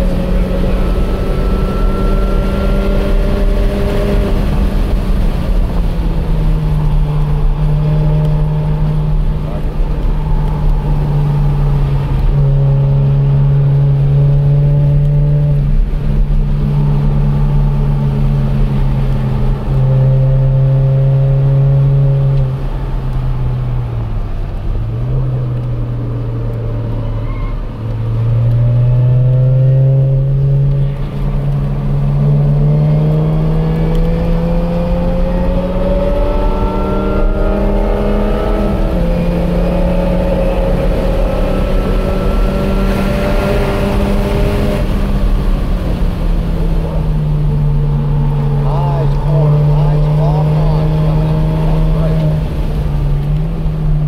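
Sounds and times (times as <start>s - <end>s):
car engine at speed: 0.0s - 54.0s.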